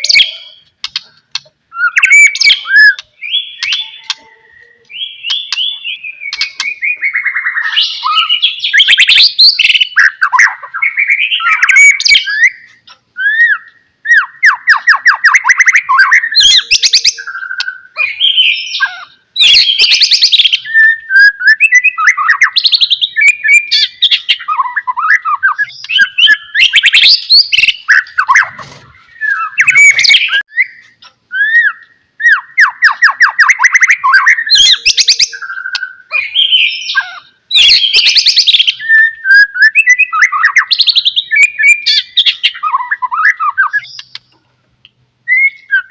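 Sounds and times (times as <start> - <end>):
songbird whistles and trills: 0.0 - 44.4, 45.2 - 45.9.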